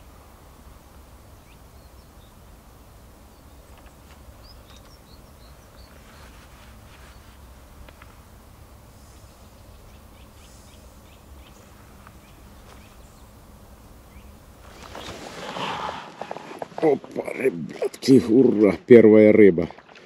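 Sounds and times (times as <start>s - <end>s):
small birds chirping: 0.8s - 18.7s.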